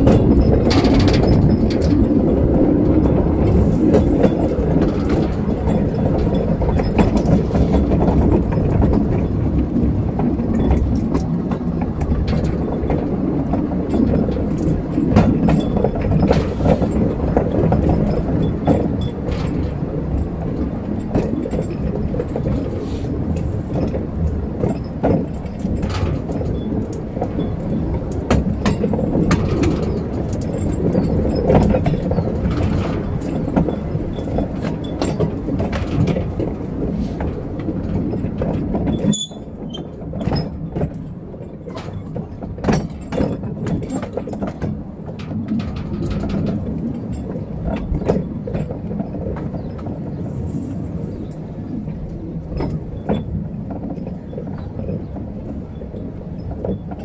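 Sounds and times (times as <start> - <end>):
rail joint clicks: 0.0 - 57.0
train wheels rumbling on rails: 0.0 - 57.0.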